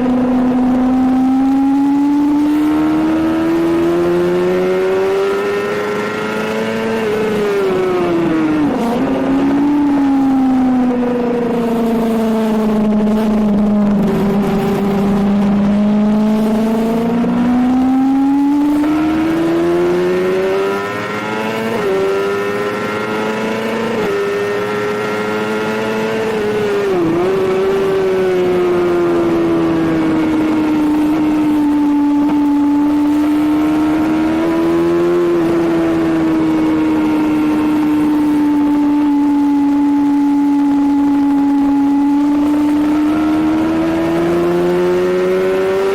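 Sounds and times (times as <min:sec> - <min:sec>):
motorcycle engine at high revs: 0:00.0 - 0:45.9.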